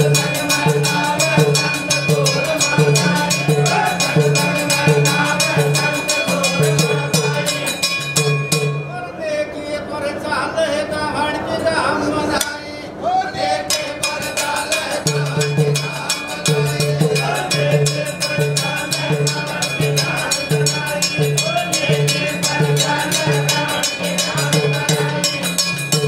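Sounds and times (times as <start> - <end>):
brass hand cymbals clashing: 0.0 - 9.0, 13.7 - 26.0
tabla beating rhythm: 0.0 - 9.0, 13.7 - 26.0.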